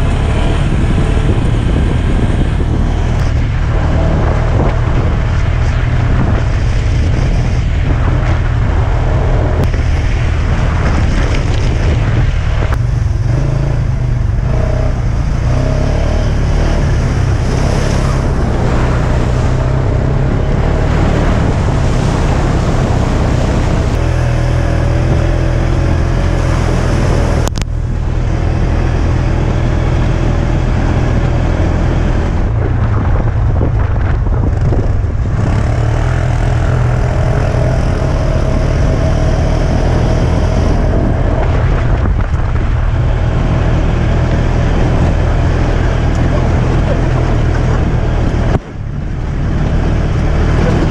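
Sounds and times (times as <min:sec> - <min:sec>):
buggy engine rumbling: 0:00.0 - 0:50.9.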